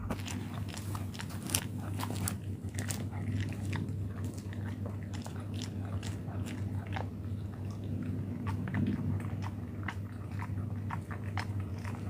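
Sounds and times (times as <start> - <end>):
dog crunching bones: 0.0 - 12.0
steady low hum: 0.0 - 12.0.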